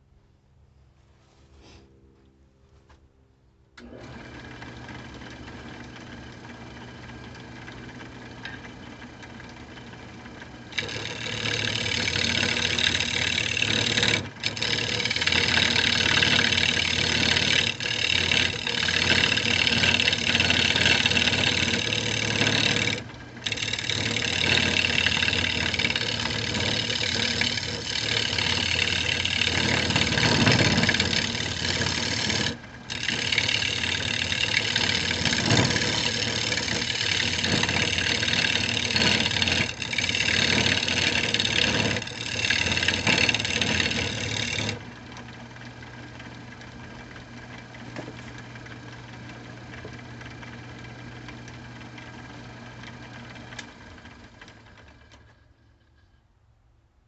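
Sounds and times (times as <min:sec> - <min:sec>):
turning tool cutting wood: 0:03.8 - 0:56.1
wood lathe motor hum: 0:03.8 - 0:56.2.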